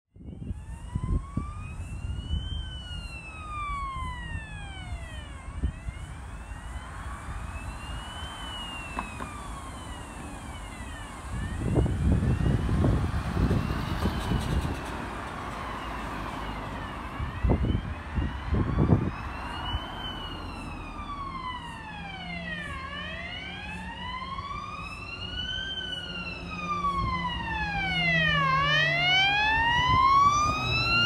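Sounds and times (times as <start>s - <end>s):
fire engine siren wailing: 0.1s - 31.0s
road traffic: 0.1s - 31.0s.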